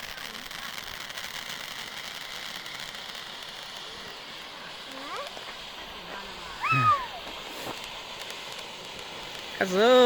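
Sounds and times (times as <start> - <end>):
firework hissing and crackling: 0.0 - 10.0.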